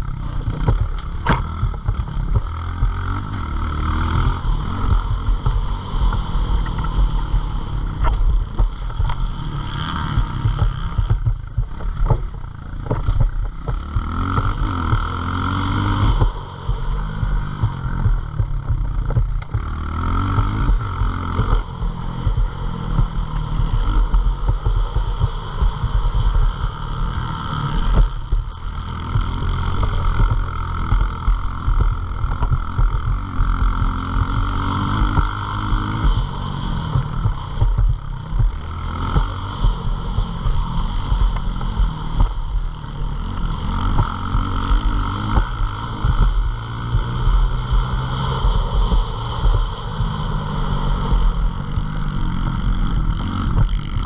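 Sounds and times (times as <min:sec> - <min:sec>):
small motorcycle engine accelerating: 0:00.0 - 0:54.0.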